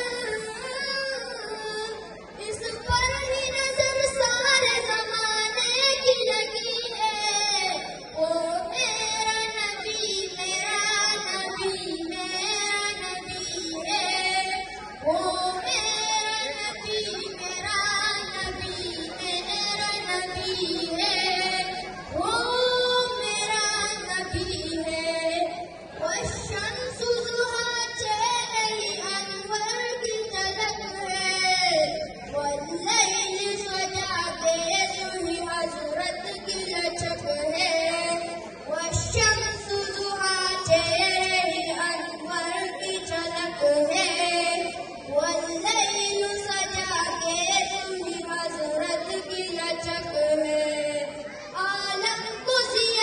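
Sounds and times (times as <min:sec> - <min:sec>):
boy singing devotional song: 0:00.0 - 0:53.0.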